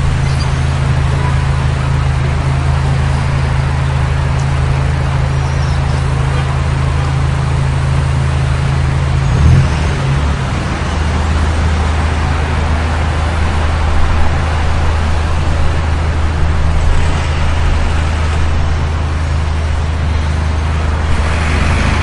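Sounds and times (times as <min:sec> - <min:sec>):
low traffic hum: 0:00.0 - 0:22.0
passing vehicles hissing: 0:00.0 - 0:22.0.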